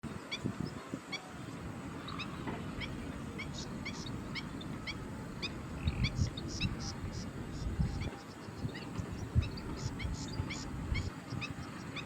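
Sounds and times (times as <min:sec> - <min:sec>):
bird chirping: 0:02.0 - 0:12.0.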